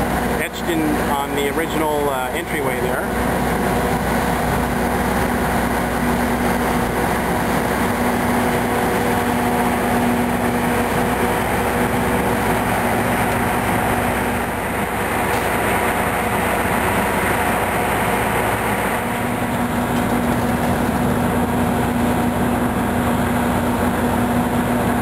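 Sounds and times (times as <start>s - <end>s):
demolition machinery engine drone: 0.0s - 25.0s
low hum: 0.0s - 25.0s.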